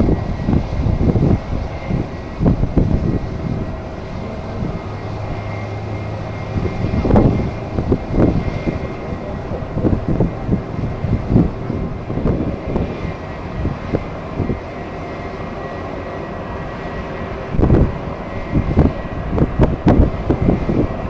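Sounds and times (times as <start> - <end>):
jet engine whine: 0.0 - 21.0
wind buffeting microphone: 0.0 - 21.0.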